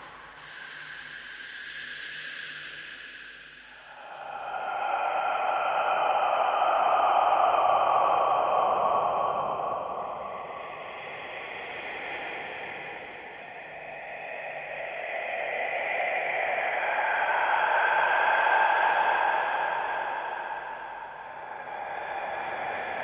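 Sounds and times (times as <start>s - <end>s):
whispered breathing: 0.0s - 23.0s.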